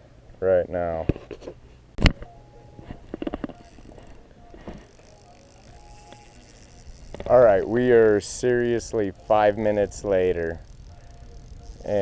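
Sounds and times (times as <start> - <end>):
fishing tackle clicks and rattles: 2.0 - 12.0.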